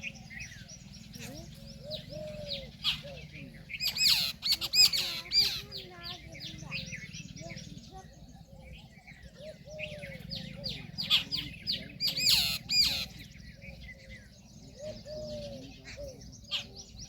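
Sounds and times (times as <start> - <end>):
birds chirping: 0.0 - 17.0
low drawn-out bird calls: 0.0 - 17.0.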